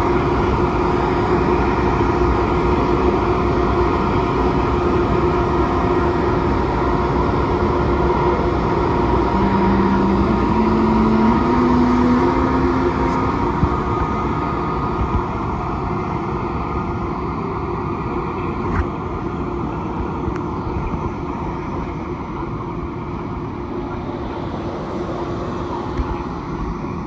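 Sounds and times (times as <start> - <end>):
train coaches rolling rumble: 0.0 - 27.0
train traction motors whining: 0.0 - 27.0.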